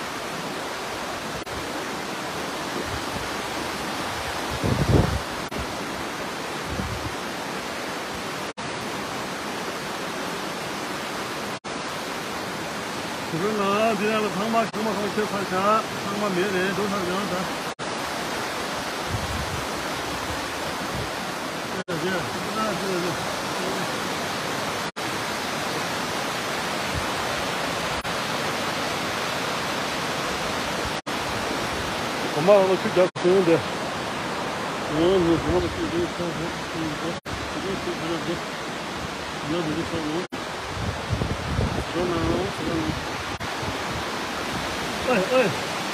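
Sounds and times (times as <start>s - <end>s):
river rushing: 0.0s - 45.9s.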